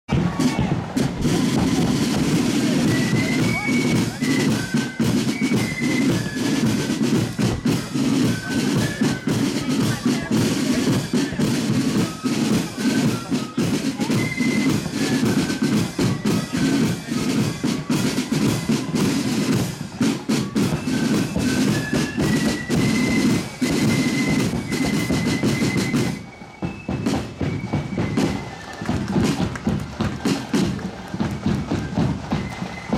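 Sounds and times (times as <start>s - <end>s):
high melody: 0.1s - 32.9s
side drums rattling: 0.1s - 32.9s.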